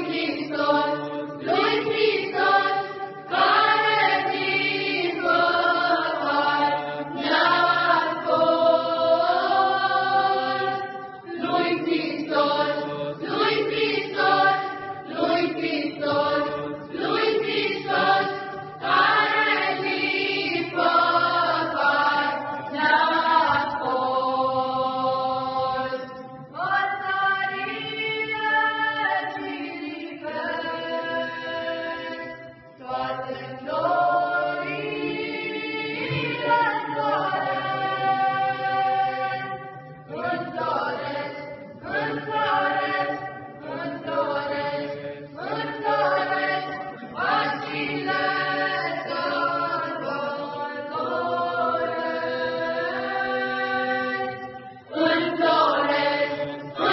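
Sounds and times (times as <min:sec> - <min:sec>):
choir singing a hymn a cappella: 0:00.0 - 0:56.9.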